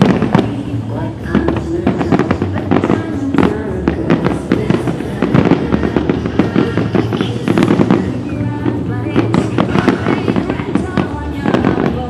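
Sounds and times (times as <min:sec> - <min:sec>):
fireworks bangs and crackles: 0:00.0 - 0:12.0
music: 0:00.0 - 0:12.0.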